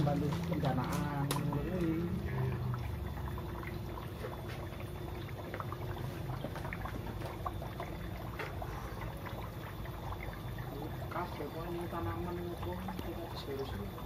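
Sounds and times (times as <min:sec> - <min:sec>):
steady low hum: 0:00.0 - 0:14.0
water bubbling and trickling: 0:00.0 - 0:14.0.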